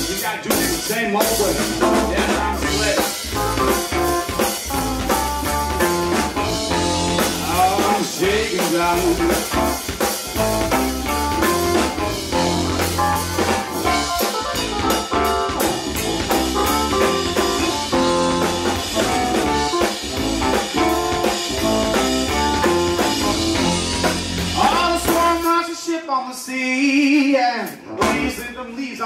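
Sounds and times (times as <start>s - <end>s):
blues band playing: 0.0s - 25.7s, 27.7s - 28.7s.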